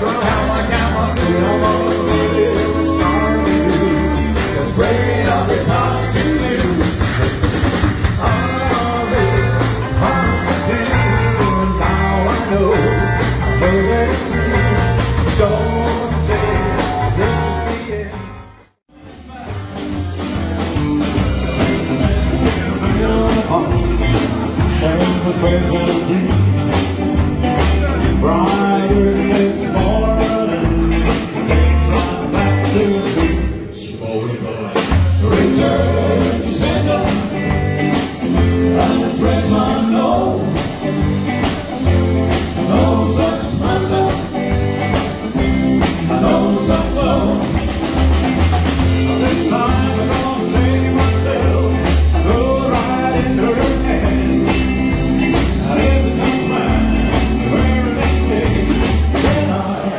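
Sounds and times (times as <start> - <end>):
rock and roll band playing: 0.0 - 59.9.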